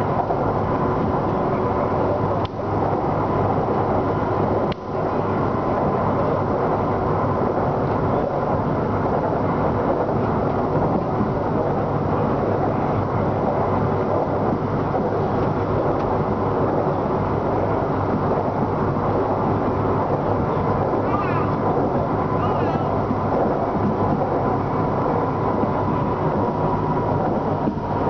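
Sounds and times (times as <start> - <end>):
train rolling on rails: 0.0 - 28.0.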